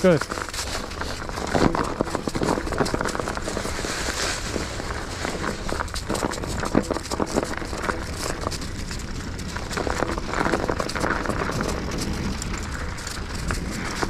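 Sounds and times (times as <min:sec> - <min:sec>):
bike tyres crunching over snow: 0:00.0 - 0:14.0
small clicks and rattles: 0:00.0 - 0:14.0.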